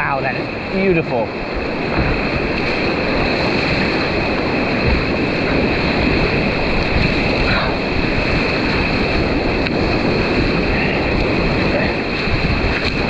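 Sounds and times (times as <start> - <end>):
whitewater rushing: 0.0 - 13.0
wind buffeting microphone: 0.0 - 13.0.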